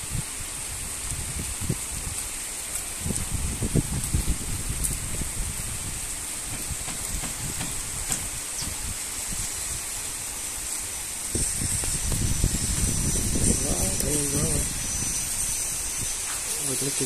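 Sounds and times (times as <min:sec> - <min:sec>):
heavy rain hissing: 0:00.0 - 0:17.0
wind buffeting microphone: 0:00.0 - 0:17.0.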